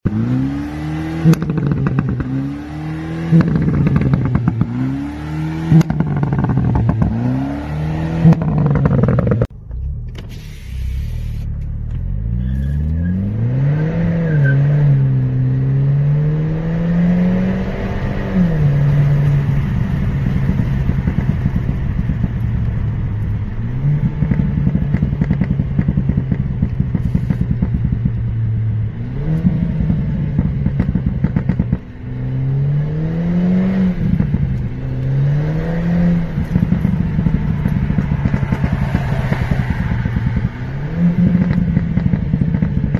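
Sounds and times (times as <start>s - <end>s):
car engine revving: 0.0s - 42.9s
exhaust crackling and popping: 1.1s - 13.5s, 17.4s - 42.9s.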